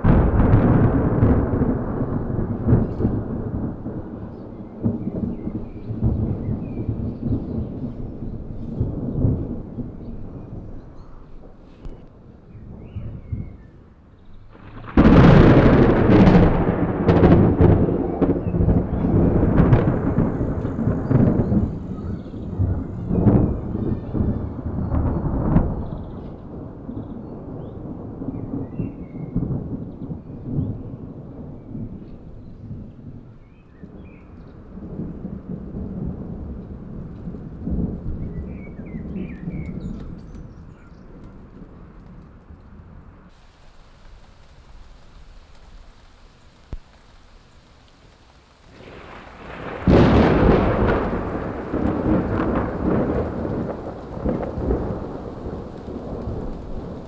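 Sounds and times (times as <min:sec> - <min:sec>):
rain falling: 0:00.0 - 0:57.0
thunder crack and rumble: 0:00.0 - 0:57.0.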